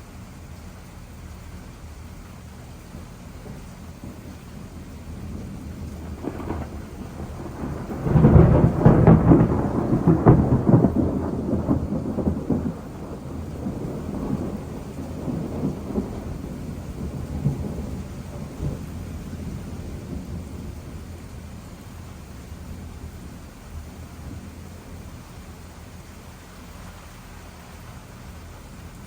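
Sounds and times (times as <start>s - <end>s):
thunder rumbling: 0.0s - 29.0s.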